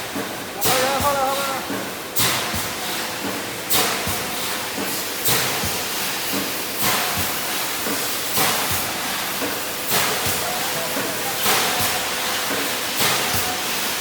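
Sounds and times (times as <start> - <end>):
welding machine hiss bursts: 0.0 - 14.0.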